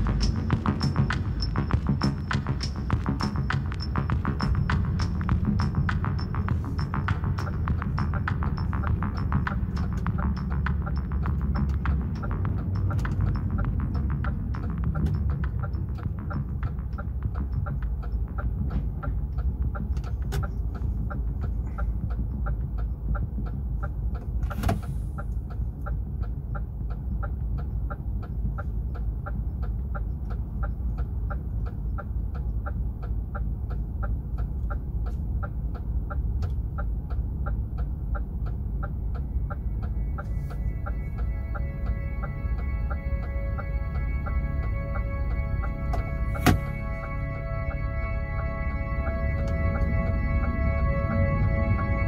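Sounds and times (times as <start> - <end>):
diesel truck engine rumble: 0.0 - 52.0
music: 0.0 - 52.0.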